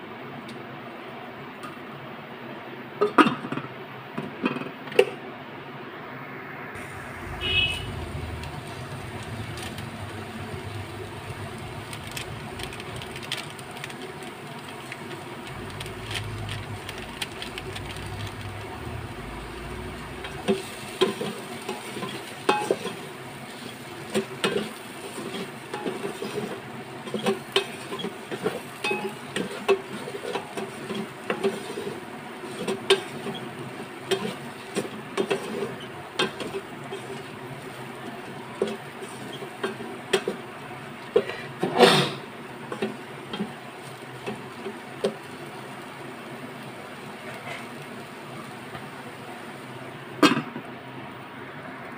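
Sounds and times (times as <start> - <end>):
food sizzling: 6.6 - 50.2.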